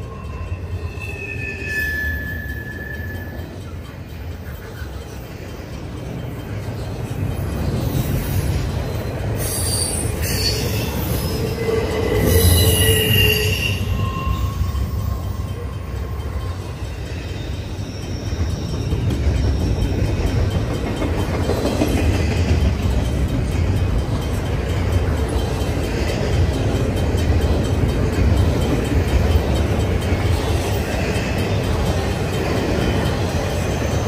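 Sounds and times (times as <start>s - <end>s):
freight train rumbling past: 0.0s - 34.0s
train wheel squeal: 0.0s - 34.0s.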